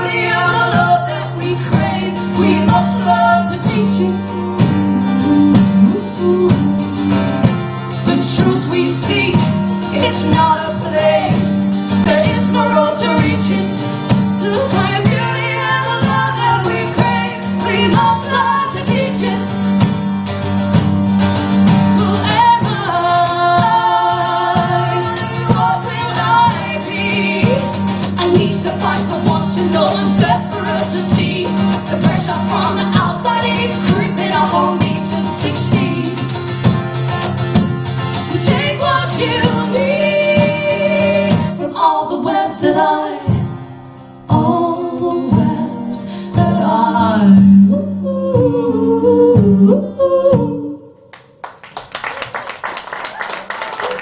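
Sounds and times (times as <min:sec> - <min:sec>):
women singing: 0:00.0 - 0:19.8, 0:22.0 - 0:36.4, 0:38.2 - 0:43.6, 0:44.3 - 0:51.0
acoustic guitars strumming chords: 0:00.0 - 0:49.8.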